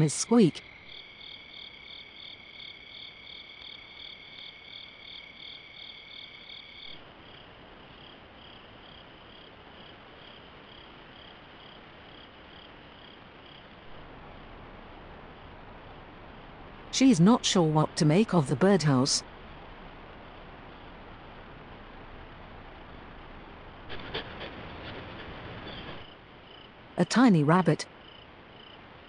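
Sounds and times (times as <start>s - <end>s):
crickets chirping: 0.0s - 18.4s, 19.0s - 23.8s, 25.6s - 26.9s, 27.8s - 29.0s.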